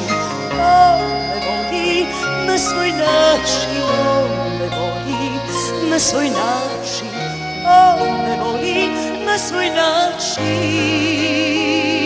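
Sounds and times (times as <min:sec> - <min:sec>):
accordion melody: 0:00.0 - 0:12.0
folk-pop band playing: 0:00.0 - 0:12.0.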